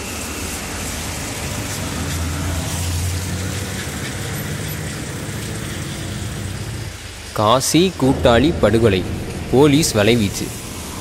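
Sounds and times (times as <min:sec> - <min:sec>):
vehicle engines passing: 0:00.0 - 0:11.0.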